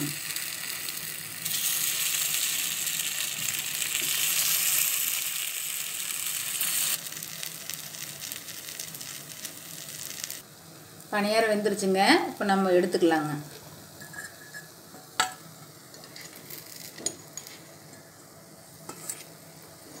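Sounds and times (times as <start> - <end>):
oil sizzling in pan: 0.0 - 20.0.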